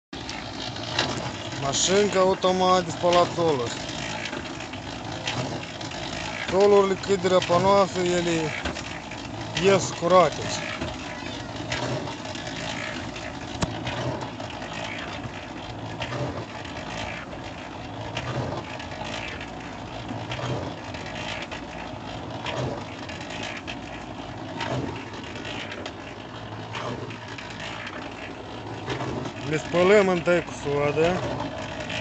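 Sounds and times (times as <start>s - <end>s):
washing machine clattering: 0.2s - 32.0s.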